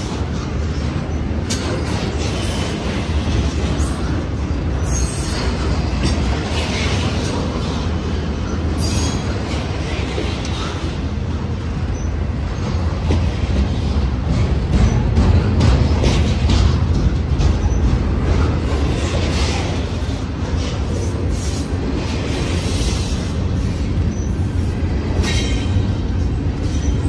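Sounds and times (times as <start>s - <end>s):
freight train wheels rumbling on rail: 0.0s - 27.0s.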